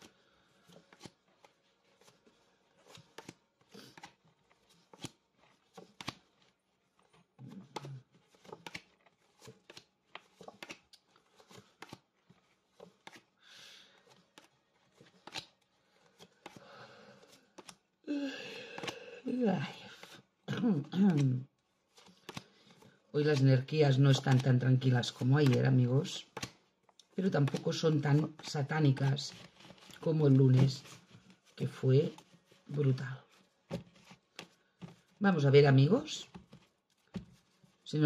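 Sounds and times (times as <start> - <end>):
cards being shuffled: 0.0 - 37.8.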